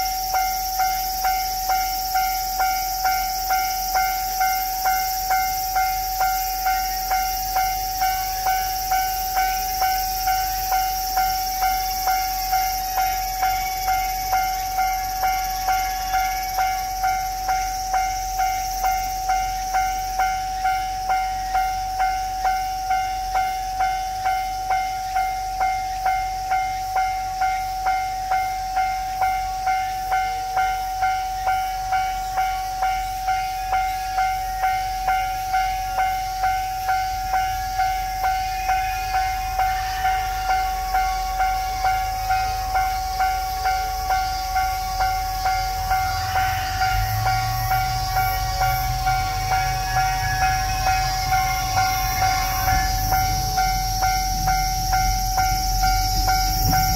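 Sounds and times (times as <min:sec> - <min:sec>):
level crossing warning bell: 0:00.0 - 0:56.9.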